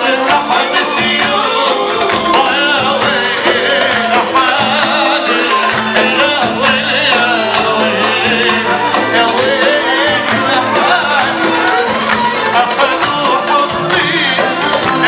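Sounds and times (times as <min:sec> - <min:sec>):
fast percussion beat: 0:00.0 - 0:15.0
keyboard: 0:00.0 - 0:15.0
person singing: 0:00.0 - 0:15.0.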